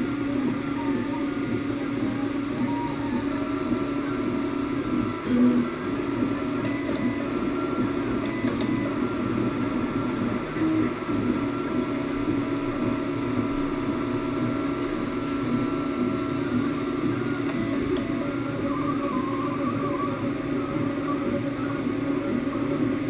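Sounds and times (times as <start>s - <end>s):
stepper motors whining: 0.0s - 23.0s.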